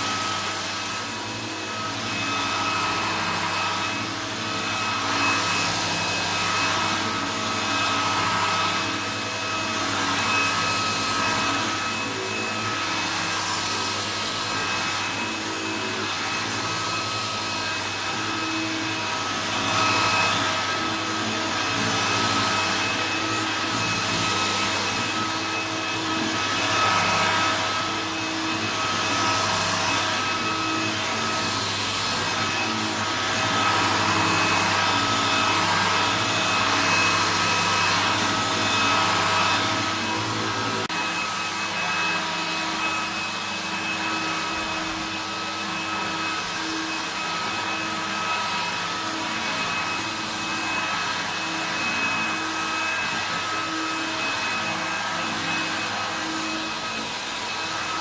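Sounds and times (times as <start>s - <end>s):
upright vacuum cleaner running: 0.0s - 58.0s.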